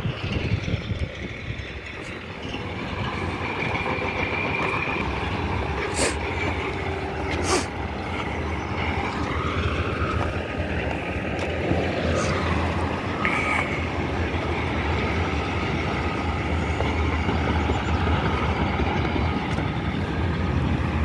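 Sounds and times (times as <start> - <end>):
heavy machinery engine rumble: 0.0 - 21.0.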